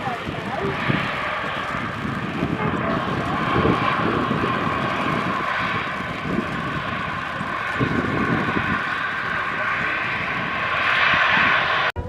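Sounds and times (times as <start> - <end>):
aircraft engines running: 0.0 - 12.0
wind buffeting microphone: 0.0 - 12.0.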